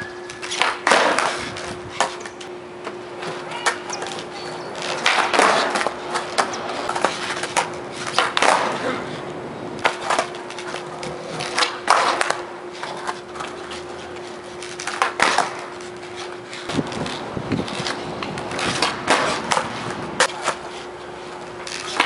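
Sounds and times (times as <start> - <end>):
skateboard tail clacks: 0.0 - 22.0
skateboard wheels rolling on concrete: 0.0 - 22.0.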